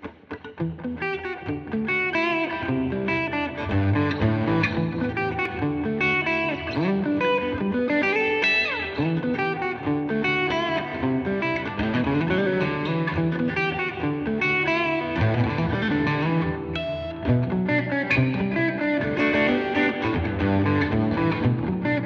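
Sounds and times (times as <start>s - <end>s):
electric guitar playing: 0.0s - 22.0s.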